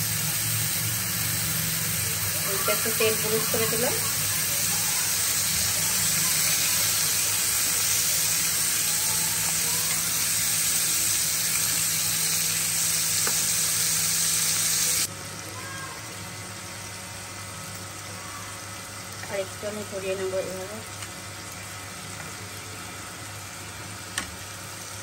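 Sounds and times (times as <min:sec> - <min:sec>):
meat sizzling in a grill pan: 0:00.0 - 0:25.0.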